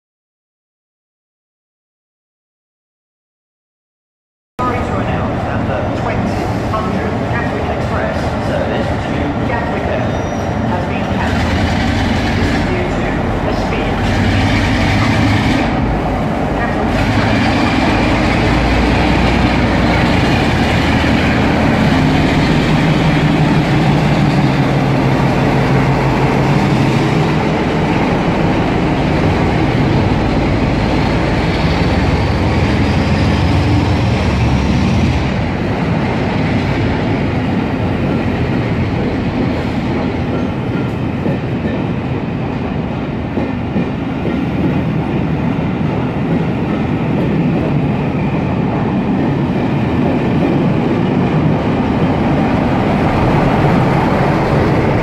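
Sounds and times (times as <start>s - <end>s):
diesel locomotive engine running: 4.6s - 55.0s
train wheels clacking over rails: 6.1s - 15.9s, 16.6s - 35.2s, 35.8s - 55.0s.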